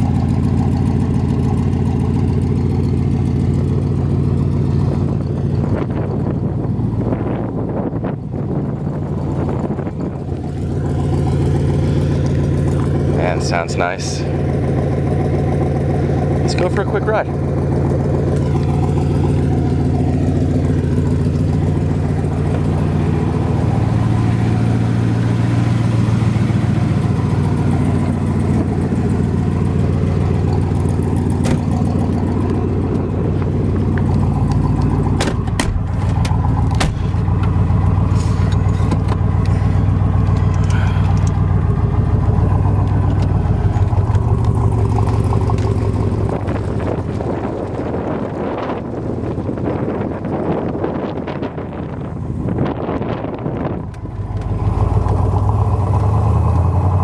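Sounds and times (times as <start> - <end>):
car engine revving while driving: 0.0 - 57.0.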